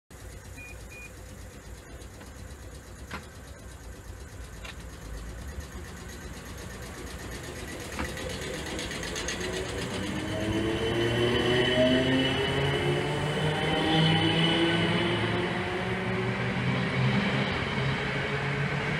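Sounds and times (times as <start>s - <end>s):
traction motor whine: 0.2s - 16.6s
electric train pulling away: 0.2s - 18.9s.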